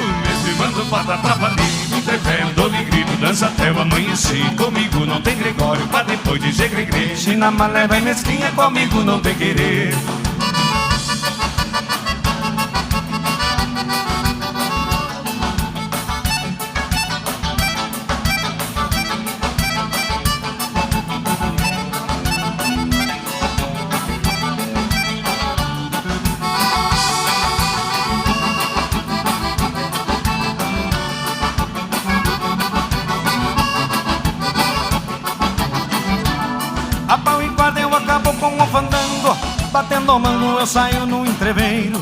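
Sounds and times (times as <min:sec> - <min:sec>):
accordion: 0:00.0 - 0:42.0
bass: 0:00.0 - 0:42.0.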